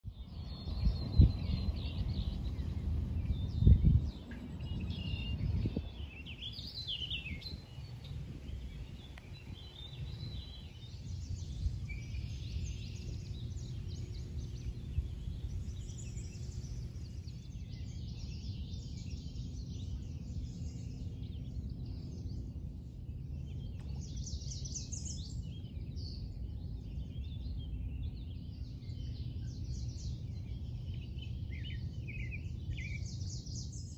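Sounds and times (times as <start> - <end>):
wild birds chirping: 0.1 - 33.9
steady low rumble: 0.2 - 33.9.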